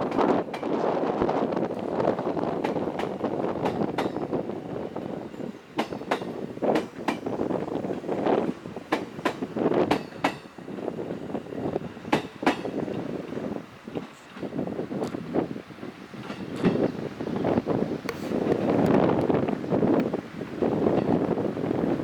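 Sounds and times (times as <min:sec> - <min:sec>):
train wheels clicking over rail joints: 0:00.0 - 0:21.4
train rumbling: 0:00.0 - 0:22.0
wind: 0:00.0 - 0:22.0.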